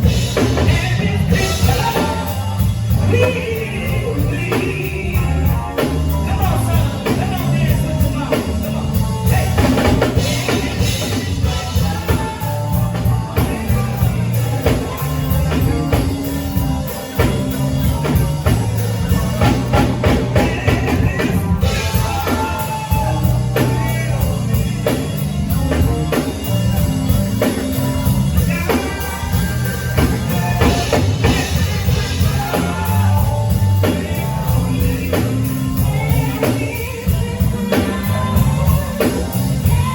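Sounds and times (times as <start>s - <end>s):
drum kit: 0.0s - 39.9s
heavy bass line: 0.0s - 39.9s
person singing: 0.0s - 39.9s.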